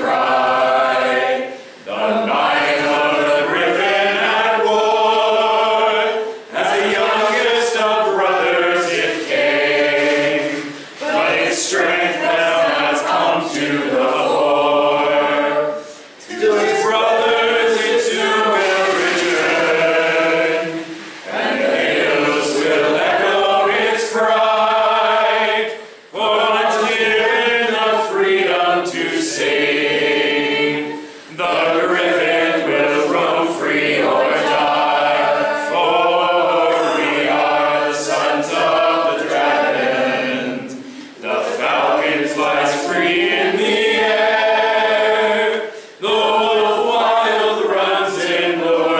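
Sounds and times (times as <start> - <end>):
group of people singing: 0.0 - 48.9.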